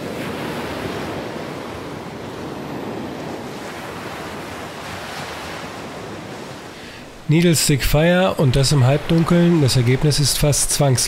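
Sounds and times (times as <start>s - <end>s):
ocean surf on rocks: 0.0s - 11.0s.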